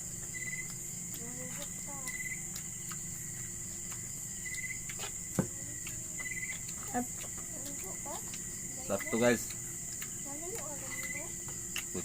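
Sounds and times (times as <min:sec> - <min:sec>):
crickets chirping: 0:00.0 - 0:12.0
high insect chorus: 0:00.0 - 0:12.0.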